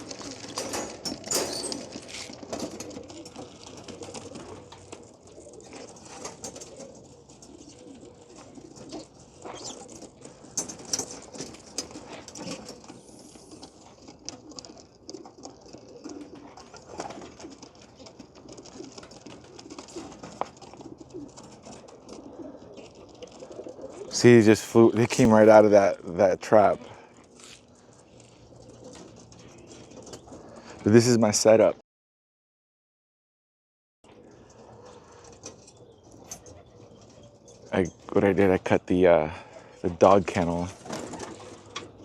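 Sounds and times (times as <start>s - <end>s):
pigeons cooing: 0.0s - 30.9s, 34.1s - 42.0s.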